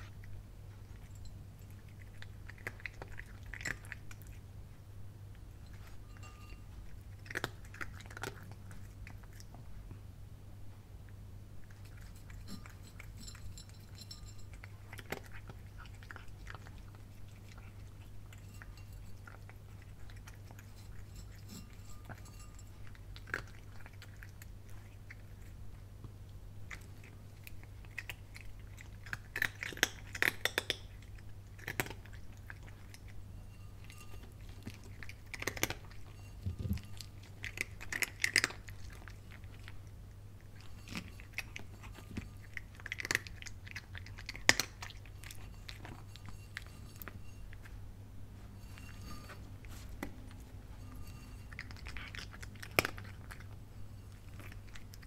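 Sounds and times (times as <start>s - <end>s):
cat crunching dry kibble: 0.0s - 4.6s, 5.3s - 9.9s, 11.6s - 47.7s, 48.6s - 55.0s
faint low hum: 0.0s - 55.0s.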